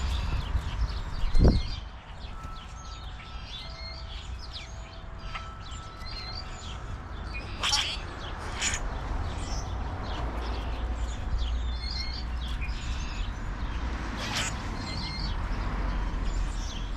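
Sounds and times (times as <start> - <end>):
small songbirds chirping: 0.0 - 16.9
steady low rumble: 0.0 - 16.9.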